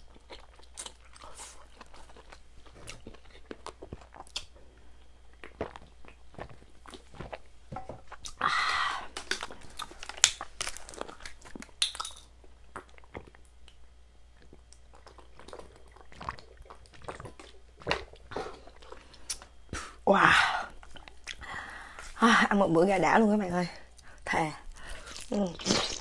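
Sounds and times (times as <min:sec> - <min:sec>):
person chewing crunchy food: 0:00.0 - 0:20.0, 0:24.7 - 0:26.0.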